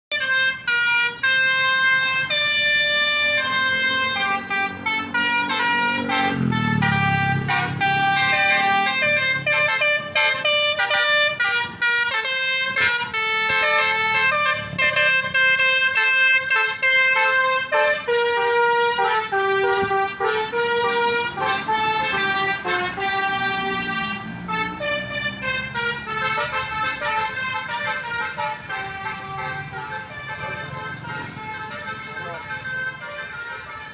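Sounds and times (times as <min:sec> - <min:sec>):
multi-tone air horn melody: 0:00.1 - 0:33.9.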